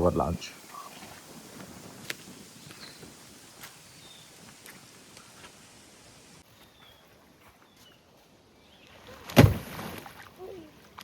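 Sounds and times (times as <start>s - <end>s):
outdoor ambience: 0.0s - 11.0s.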